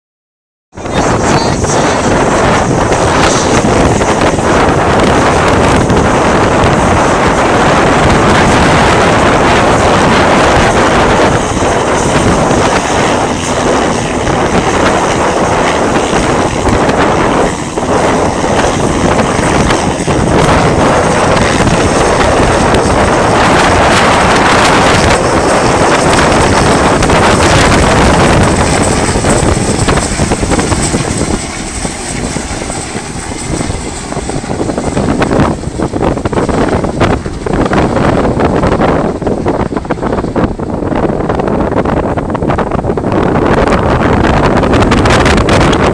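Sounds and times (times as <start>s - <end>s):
helicopter rotor and engine: 0.8s - 45.9s
wind buffeting microphone: 0.8s - 45.9s.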